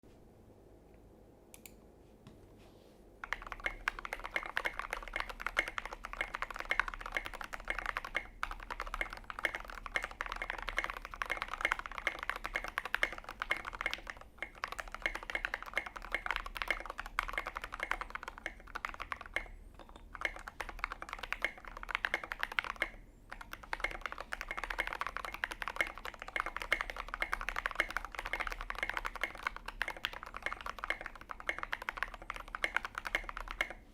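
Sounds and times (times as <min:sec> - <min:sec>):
mechanical keyboard typing: 0:03.2 - 0:33.8.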